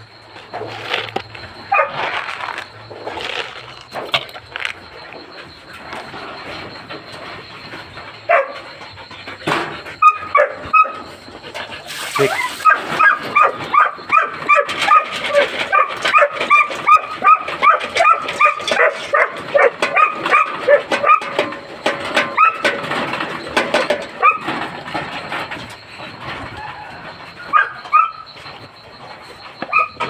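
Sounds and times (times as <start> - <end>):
huskies barking and yipping: 0.0 - 30.0.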